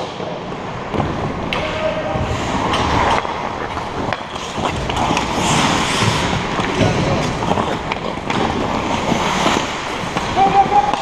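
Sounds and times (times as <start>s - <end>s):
hockey sticks and puck knocking: 0.0s - 11.0s
skates scraping on ice: 0.0s - 11.0s.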